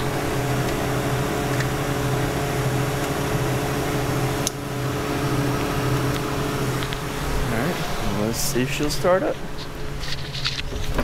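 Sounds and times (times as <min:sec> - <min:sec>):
fan-like machine hum: 0:00.0 - 0:11.0.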